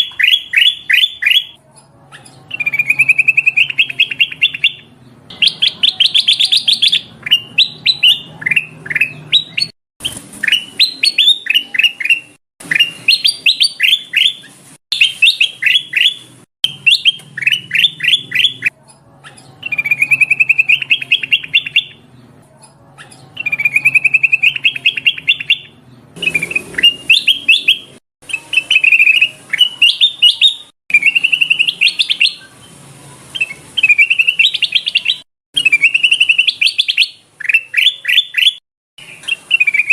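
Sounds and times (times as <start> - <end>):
bulbul chirping and trilling: 0.0 - 22.2, 23.0 - 32.5, 33.4 - 39.9.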